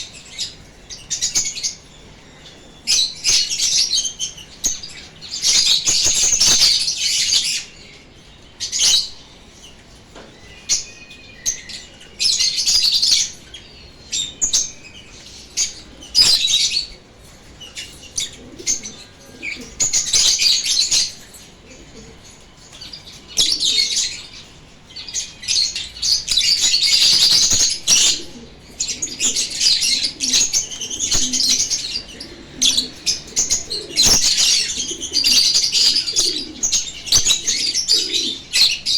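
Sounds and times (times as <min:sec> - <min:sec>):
lovebirds chattering and chirping: 0:00.0 - 0:38.9.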